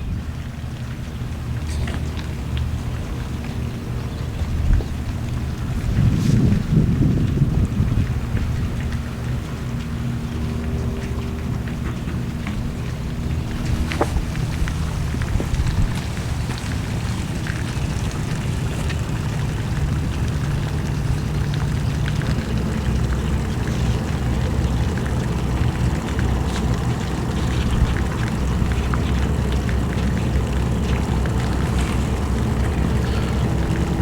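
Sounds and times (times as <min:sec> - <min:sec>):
engines droning: 0:00.0 - 0:34.0.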